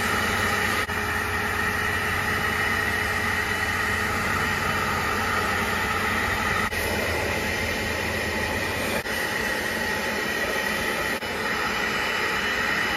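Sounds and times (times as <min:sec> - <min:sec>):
carpet extractor motor whine: 0:00.0 - 0:12.9.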